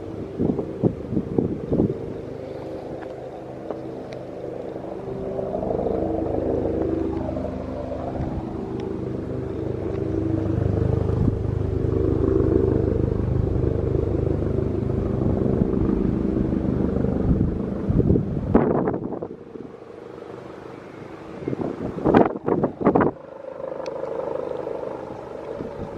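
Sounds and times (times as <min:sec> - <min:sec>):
helicopter rotor and engine: 0:00.0 - 0:25.9.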